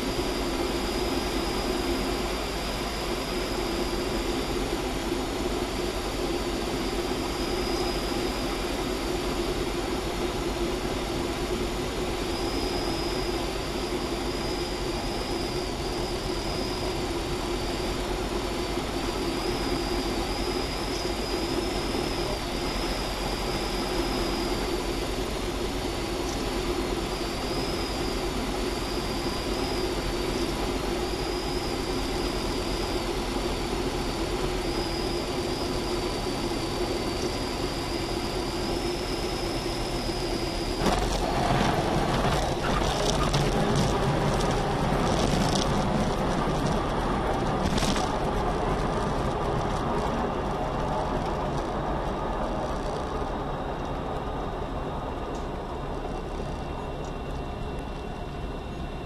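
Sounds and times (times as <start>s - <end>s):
piston engine and propeller running: 0.0s - 59.0s.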